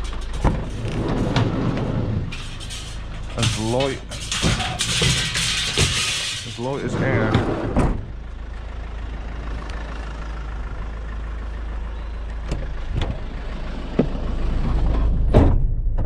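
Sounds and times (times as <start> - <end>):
van engine rumbling: 0.0 - 16.0.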